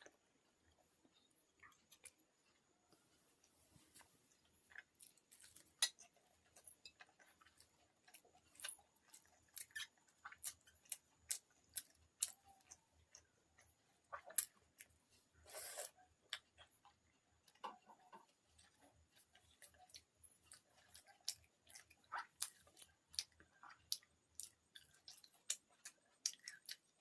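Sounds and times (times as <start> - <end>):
soft chewing: 0.0 - 27.0
food crunching: 4.0 - 27.0.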